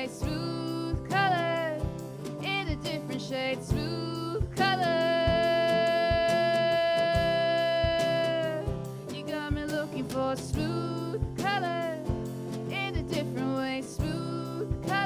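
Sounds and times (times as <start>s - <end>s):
band playing steady beat: 0.0s - 15.0s
person singing: 0.0s - 15.0s.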